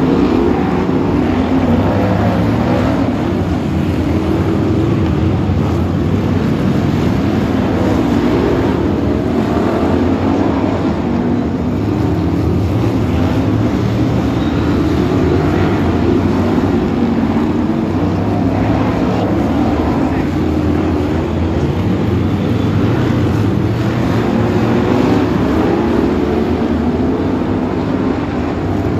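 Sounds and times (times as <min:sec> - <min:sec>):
racing car engines roaring: 0:00.0 - 0:28.9.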